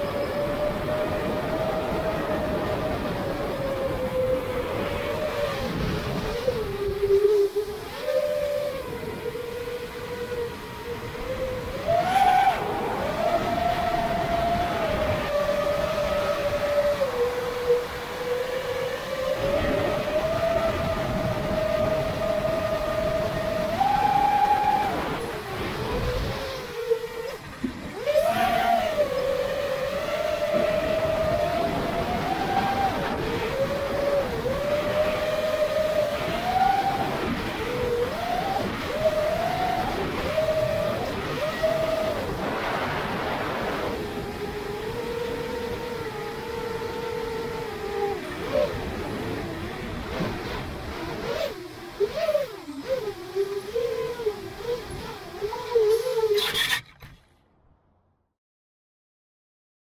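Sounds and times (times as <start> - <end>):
quadcopter motors whining: 0.0 - 57.4.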